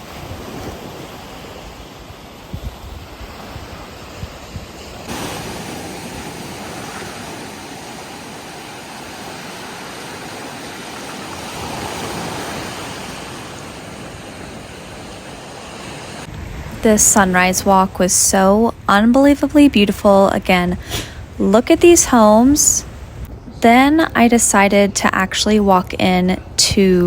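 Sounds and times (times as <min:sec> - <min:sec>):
ocean surf washing onto beach: 0:00.0 - 0:23.9
wind buffeting microphone: 0:00.0 - 0:27.0.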